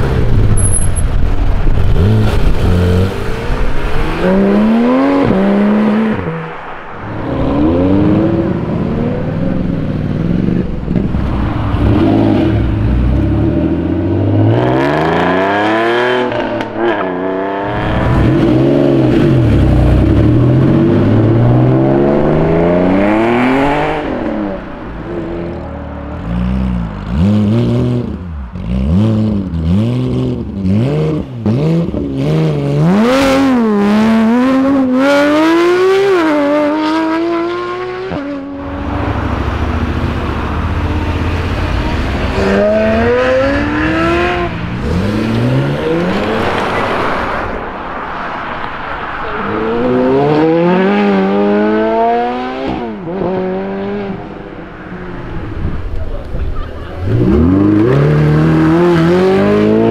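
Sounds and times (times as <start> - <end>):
sports car engines revving: 0.0 - 59.9.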